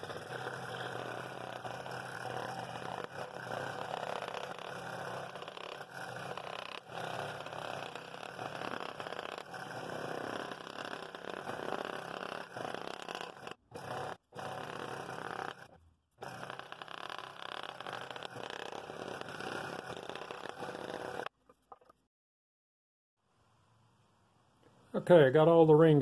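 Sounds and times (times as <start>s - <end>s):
scroll saw cutting wood: 0.0s - 21.3s.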